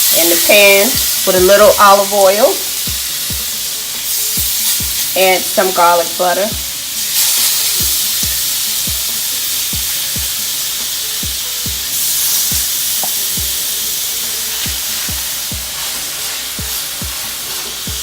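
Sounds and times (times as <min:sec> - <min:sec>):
chicken sizzling in a pan: 0:00.0 - 0:18.0
background music with bass beat: 0:00.8 - 0:01.9, 0:02.6 - 0:05.2, 0:06.4 - 0:18.0.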